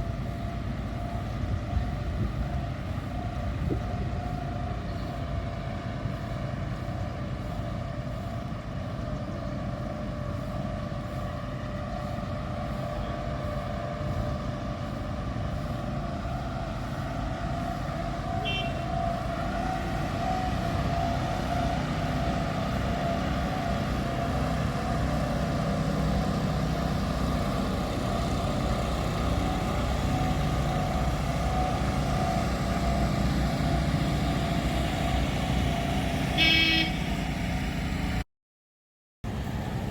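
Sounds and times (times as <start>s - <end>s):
engine running steadily: 0.0s - 38.2s, 39.2s - 39.9s.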